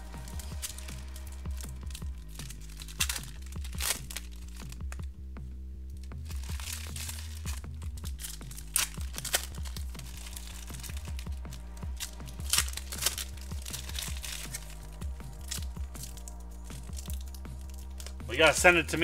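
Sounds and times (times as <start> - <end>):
foil wrappers crinkling and tearing: 0.0 - 5.0, 5.9 - 19.0
cards clicking: 0.0 - 5.1, 6.0 - 19.0
quiet background music: 0.0 - 19.0.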